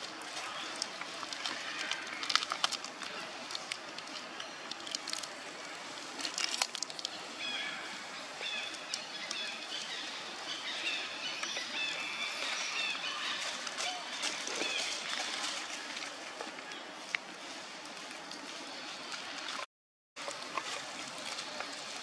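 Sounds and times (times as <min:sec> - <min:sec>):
dry leaves rustling: 0:00.0 - 0:19.6, 0:20.2 - 0:22.0.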